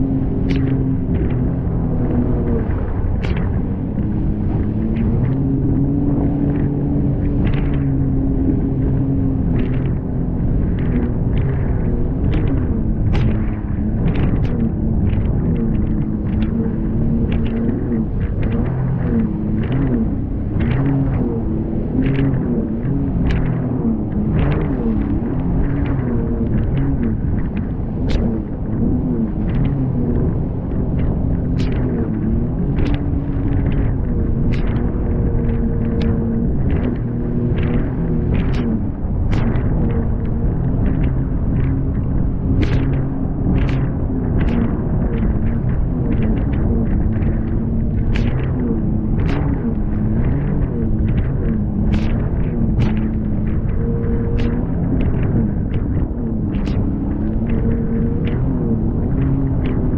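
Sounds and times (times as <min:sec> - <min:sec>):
hull slapping on waves: 0:00.0 - 0:59.9
jet ski engine running: 0:00.0 - 0:59.9
wind and water rushing: 0:00.0 - 0:59.9.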